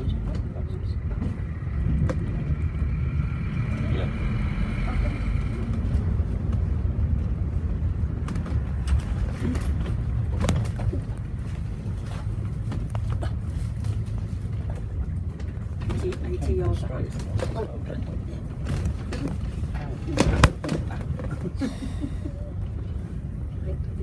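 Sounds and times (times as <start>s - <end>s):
bus body knocking and rattling: 0.0s - 4.1s, 5.2s - 23.7s
bus engine and road rumble: 0.0s - 24.0s.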